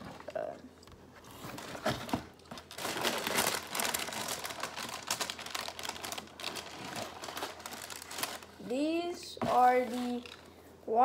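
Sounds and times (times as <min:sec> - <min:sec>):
paper packing rustling: 0:01.2 - 0:10.5.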